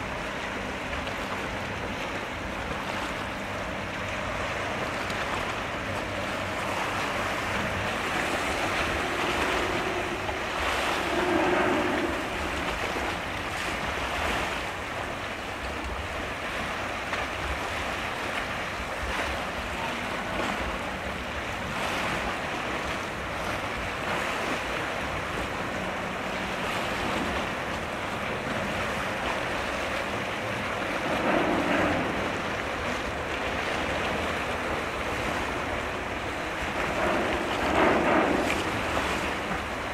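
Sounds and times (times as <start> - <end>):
low steady hum: 0.0 - 39.9
water noise: 0.0 - 39.9
wind on microphone: 0.0 - 39.9.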